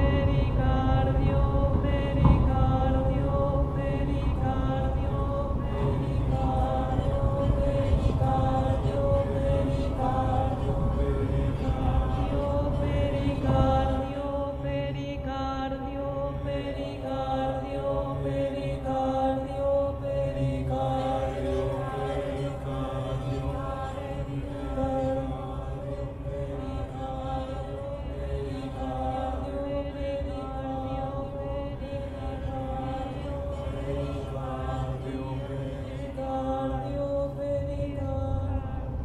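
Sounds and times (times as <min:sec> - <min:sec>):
low drone: 0:00.0 - 0:39.0.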